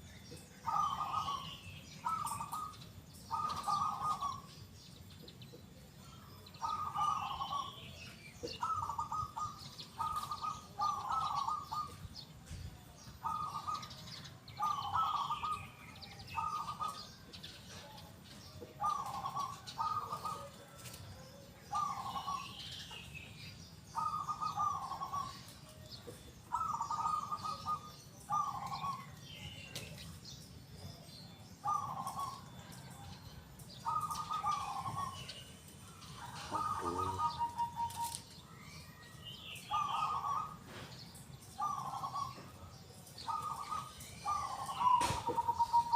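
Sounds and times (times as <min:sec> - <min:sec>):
small birds chirping: 0:00.0 - 0:45.9
dove cooing: 0:00.6 - 0:04.6, 0:06.3 - 0:12.2, 0:13.1 - 0:23.0, 0:23.9 - 0:30.2, 0:30.8 - 0:38.4, 0:39.6 - 0:45.9.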